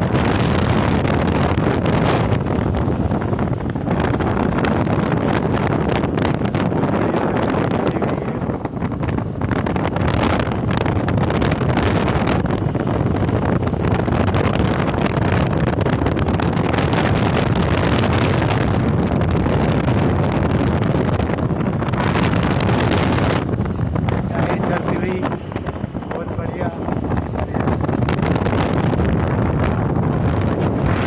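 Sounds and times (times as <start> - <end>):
motorcycle engine and road noise: 0.0 - 31.0
wind buffeting microphone: 0.0 - 31.0.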